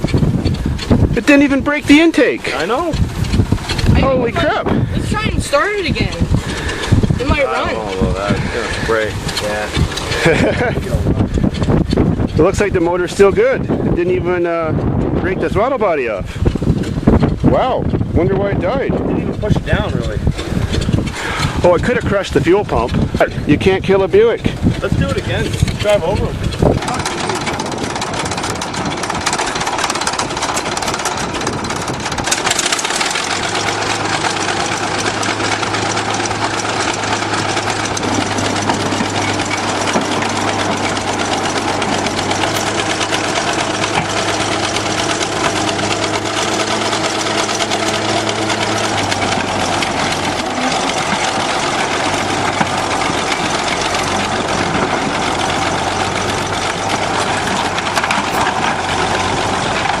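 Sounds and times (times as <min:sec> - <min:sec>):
bulldozer diesel engine running: 0:00.0 - 1:00.0
steady low hum: 0:00.0 - 1:00.0.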